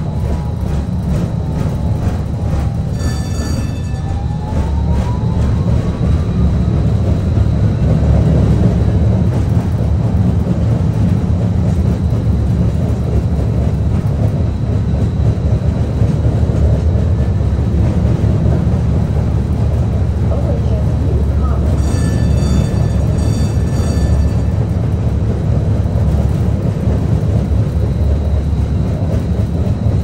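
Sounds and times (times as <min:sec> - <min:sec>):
streetcar wheels rumbling on rail: 0:00.0 - 0:30.0.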